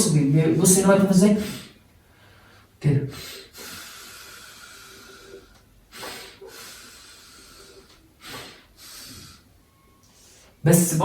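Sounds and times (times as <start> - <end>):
man breathing through mouth: 1.4 - 10.6.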